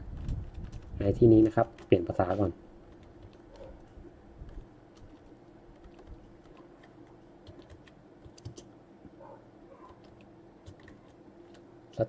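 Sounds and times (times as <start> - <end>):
low steady hum: 0.0 - 12.0
typing on keyboard: 0.1 - 8.7, 9.8 - 12.0.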